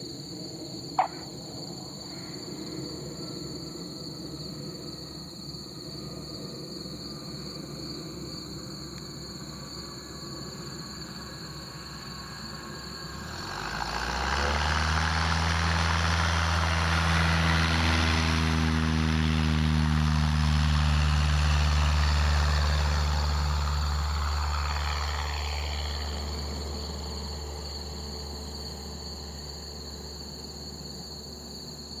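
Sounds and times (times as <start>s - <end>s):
light aircraft engine drone: 0.0s - 32.0s.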